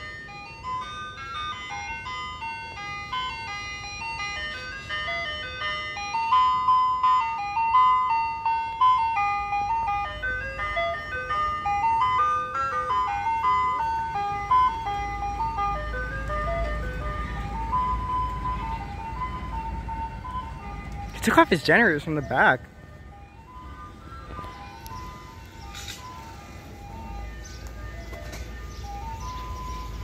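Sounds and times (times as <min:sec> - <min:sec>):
ice cream truck jingle over loudspeaker: 0:00.0 - 0:30.0
truck engine rumbling: 0:00.0 - 0:30.0.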